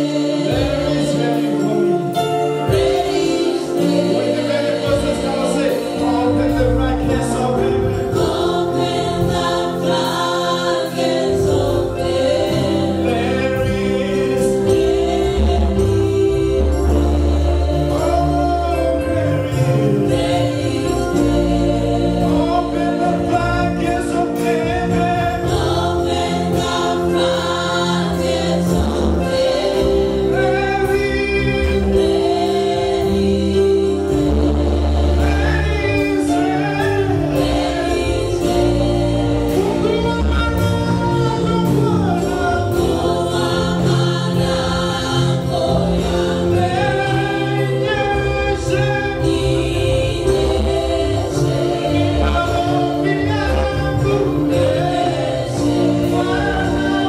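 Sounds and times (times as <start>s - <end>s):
amplified band with steady beat: 0.0s - 57.0s
lead and backing vocals singing: 0.0s - 57.0s.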